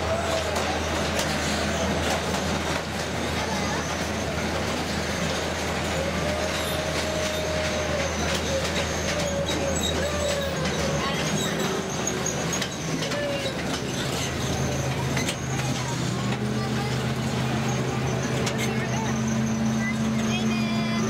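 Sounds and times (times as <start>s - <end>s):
rail joint clicks: 0.0s - 20.4s
train engine hum: 0.0s - 21.0s
wheel squeal: 0.0s - 21.0s.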